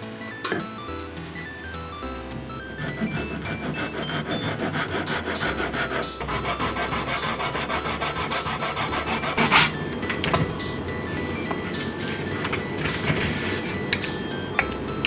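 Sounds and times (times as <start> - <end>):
hand tool scraping on wood: 2.3 - 14.7.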